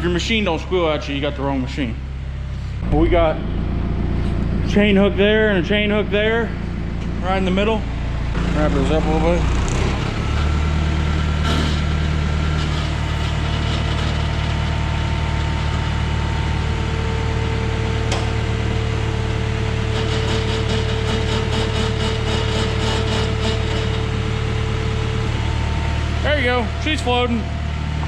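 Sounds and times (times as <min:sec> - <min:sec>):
machine engine running: 0:00.0 - 0:28.0
steady whine: 0:00.0 - 0:28.0.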